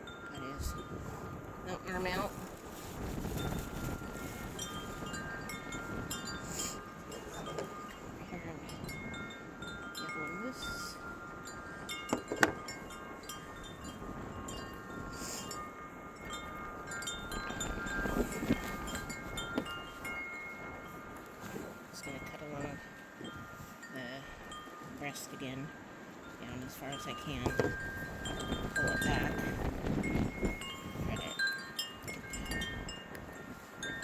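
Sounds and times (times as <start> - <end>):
wind chimes ringing: 0.0 - 34.0
wind rumble on microphone: 0.0 - 34.0.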